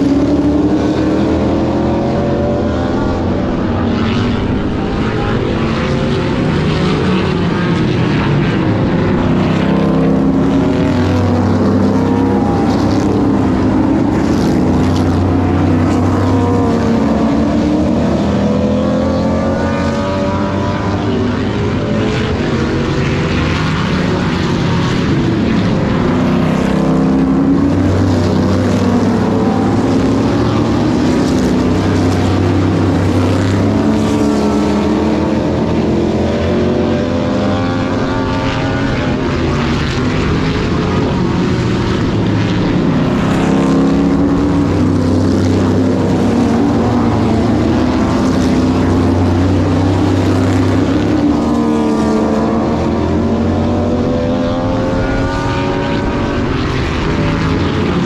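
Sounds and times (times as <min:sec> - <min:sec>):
race cars passing by: 0:00.0 - 0:58.0.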